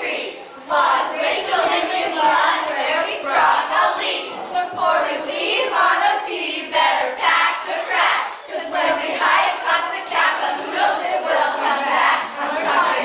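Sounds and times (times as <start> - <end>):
young voices singing and chanting: 0.0 - 13.0.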